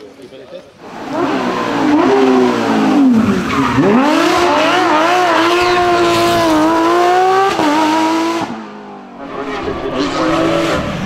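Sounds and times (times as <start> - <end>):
rally car engine revving: 0.8 - 11.0.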